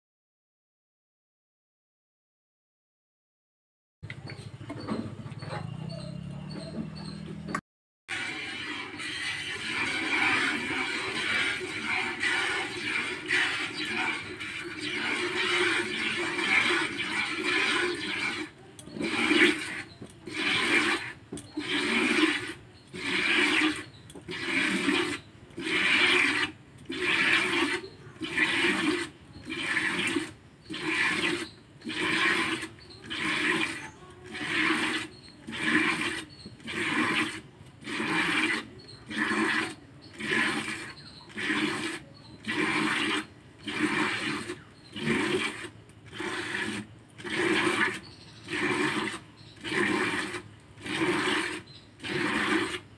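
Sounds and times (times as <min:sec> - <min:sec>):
milk squirting into plastic bucket: 0:08.1 - 0:52.9.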